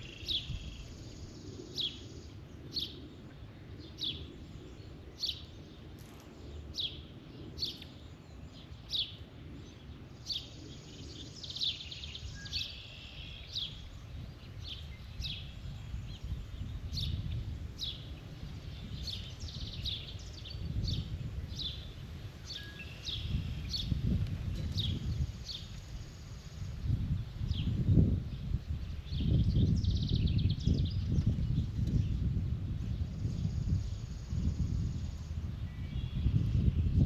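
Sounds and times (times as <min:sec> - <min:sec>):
songbird chirping: 0:00.0 - 0:32.3.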